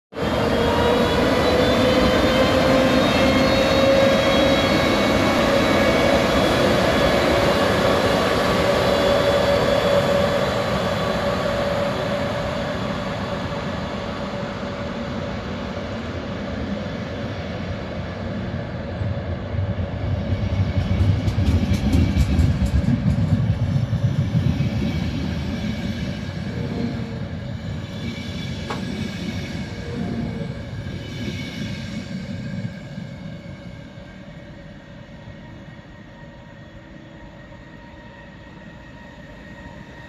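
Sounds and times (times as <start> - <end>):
train wheels rumbling on rails: 0.1 - 40.0.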